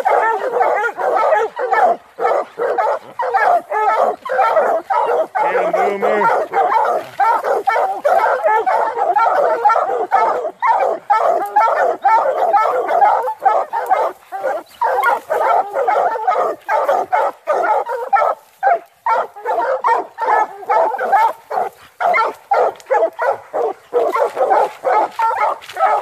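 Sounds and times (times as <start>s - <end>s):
hounds barking and baying: 0.0s - 26.0s.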